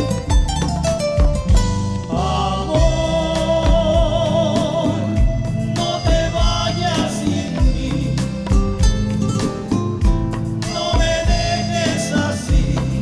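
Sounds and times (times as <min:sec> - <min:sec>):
bongos: 0:00.0 - 0:13.0
romantic ballad: 0:00.0 - 0:13.0.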